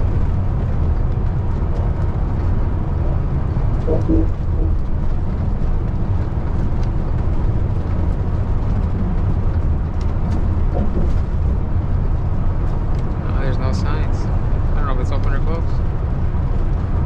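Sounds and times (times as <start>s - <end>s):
road noise: 0.0s - 17.0s
truck diesel engine rumble: 0.0s - 17.0s.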